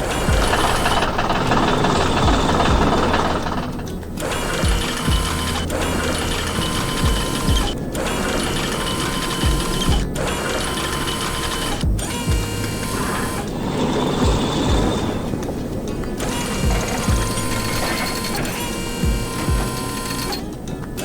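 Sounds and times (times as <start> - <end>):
low thumps of background music: 0.0 - 21.0
mechanical clicking and whirring: 0.0 - 21.0.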